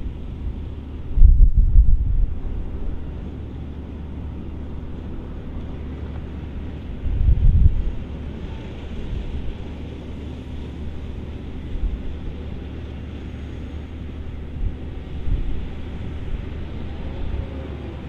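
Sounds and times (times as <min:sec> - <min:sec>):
harvester machine noise: 0:00.0 - 0:18.0
tractor engine hum: 0:00.0 - 0:18.0.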